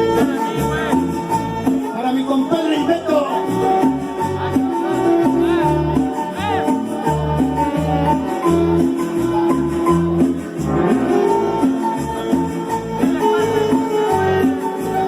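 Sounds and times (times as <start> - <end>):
latin dance music: 0.0 - 15.0.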